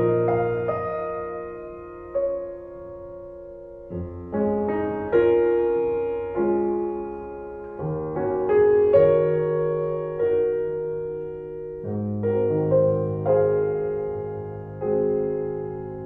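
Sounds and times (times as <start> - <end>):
slow solo piano chords: 0.0 - 16.0.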